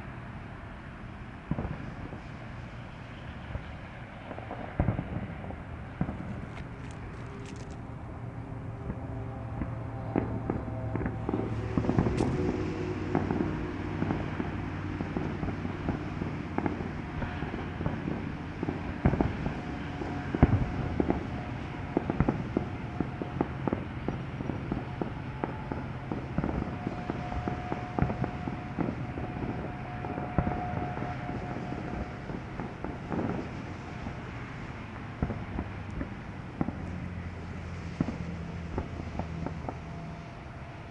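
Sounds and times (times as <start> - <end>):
low hum: 0.0 - 40.9
distant fireworks bangs and pops: 0.8 - 40.9.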